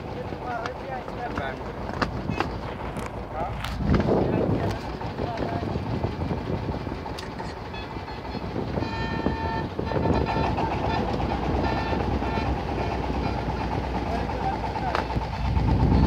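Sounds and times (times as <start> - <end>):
motor boat engine droning: 0.0 - 16.0.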